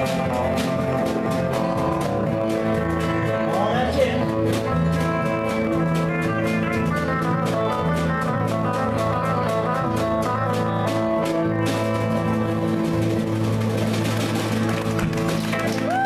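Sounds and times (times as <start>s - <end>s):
drum kit: 0.0s - 16.0s
electric bass low notes: 0.0s - 16.0s
strummed acoustic guitars: 0.0s - 16.0s.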